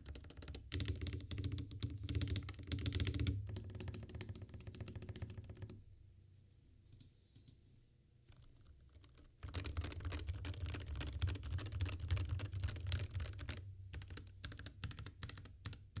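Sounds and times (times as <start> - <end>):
keyboard typing: 0.0 - 5.8, 8.9 - 16.0.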